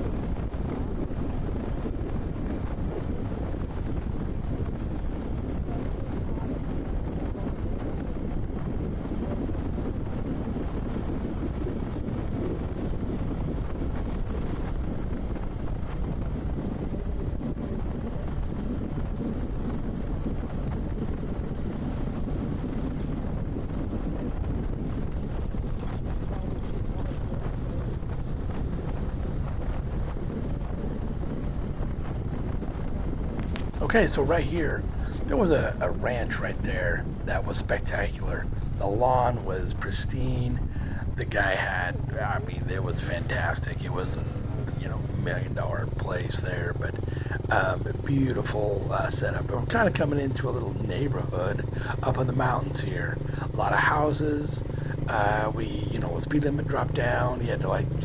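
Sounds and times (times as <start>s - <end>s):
wind buffeting microphone: 0.0s - 58.0s
motorcycle engine running: 0.4s - 58.0s.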